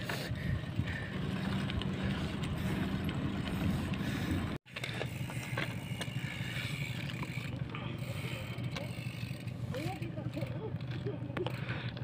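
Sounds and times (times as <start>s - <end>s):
bike rolling over concrete: 0.0s - 12.0s
freewheel hub ticking: 0.1s - 12.0s.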